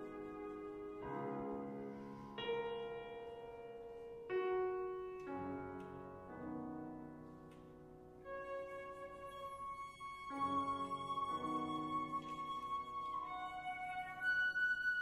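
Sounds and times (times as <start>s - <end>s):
flute and piano classical music: 0.0s - 15.0s.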